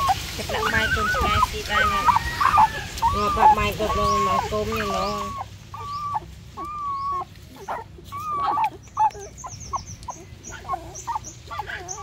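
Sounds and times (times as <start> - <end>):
puppies whining and squeaking: 0.0 - 12.0.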